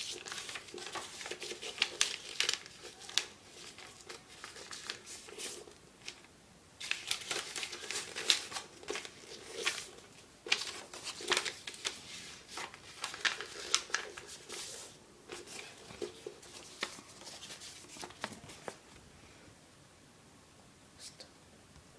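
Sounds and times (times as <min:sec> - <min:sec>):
paper rustling and crinkling: 0:00.0 - 0:19.0.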